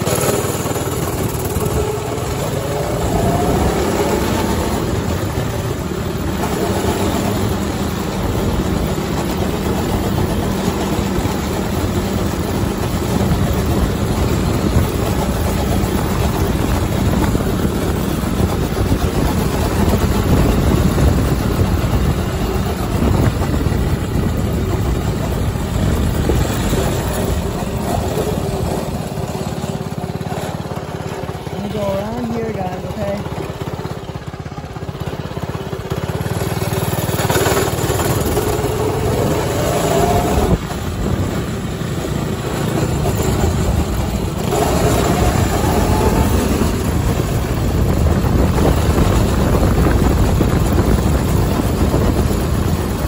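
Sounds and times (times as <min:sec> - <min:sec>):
go-kart engine running: 0:00.0 - 0:53.0.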